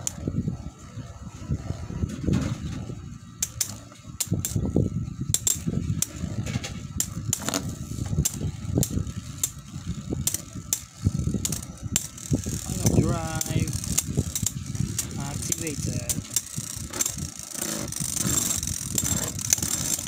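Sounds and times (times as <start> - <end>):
spinning tops whirring: 0.0 - 20.0.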